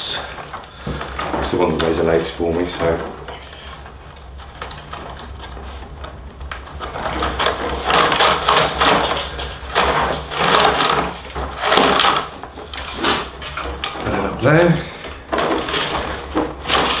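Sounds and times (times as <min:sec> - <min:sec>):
steady low hum: 0:00.0 - 0:17.0
rawhide lacing scraping: 0:00.1 - 0:17.0.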